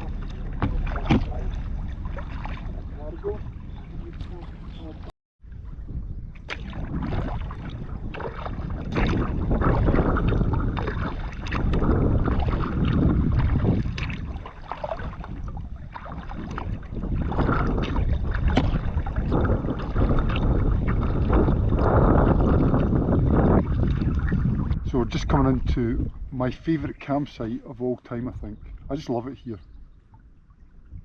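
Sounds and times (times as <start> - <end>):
paddle splashing in water: 0.0 - 27.6
wind rumbling on microphone: 0.0 - 31.0.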